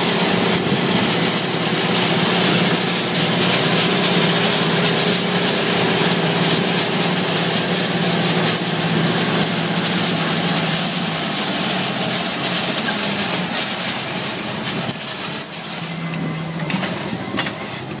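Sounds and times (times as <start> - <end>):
tillage discs crackling through stalks: 0.0 - 18.0
tractor engine humming: 0.0 - 18.0.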